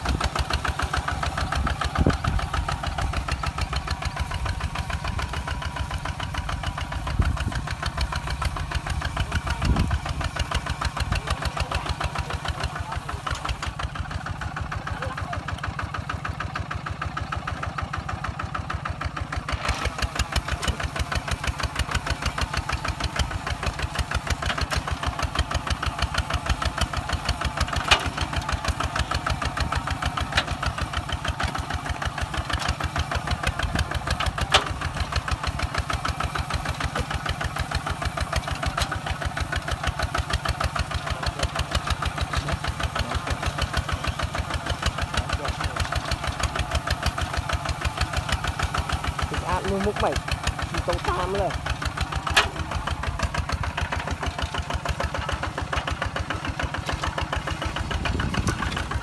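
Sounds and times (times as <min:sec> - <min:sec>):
diesel tractor engine thudding: 0:00.0 - 0:59.0.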